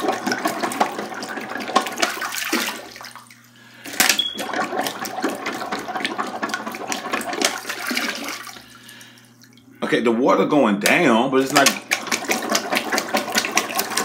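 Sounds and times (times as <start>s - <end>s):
water sloshing in toilet bowl: 0.0s - 9.8s, 10.9s - 14.0s.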